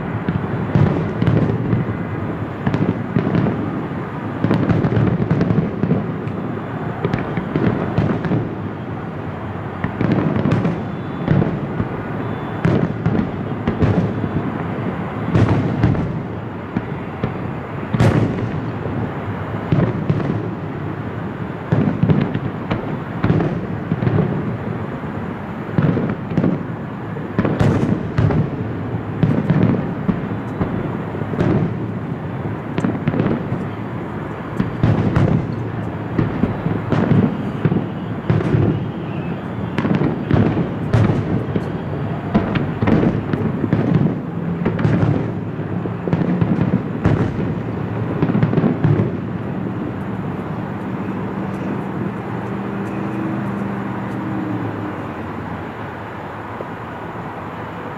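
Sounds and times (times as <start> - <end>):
fireworks booming and crackling: 0.0 - 57.9
sharp fireworks cracks: 0.0 - 57.9.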